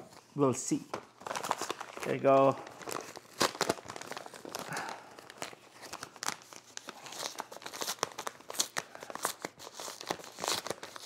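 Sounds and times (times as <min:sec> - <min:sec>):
paper tearing and crinkling: 0:01.2 - 0:11.0.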